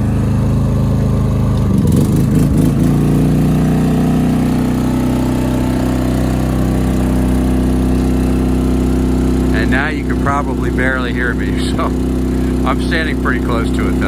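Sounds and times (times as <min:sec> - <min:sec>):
generator engine revving and running: 0:00.0 - 0:14.0.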